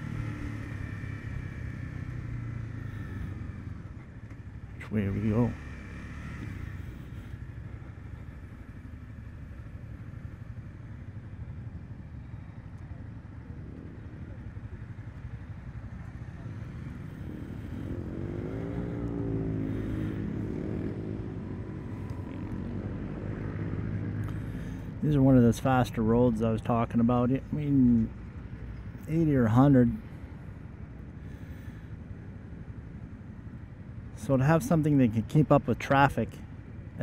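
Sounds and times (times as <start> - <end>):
motorcycle engine drone: 0.0 - 37.0.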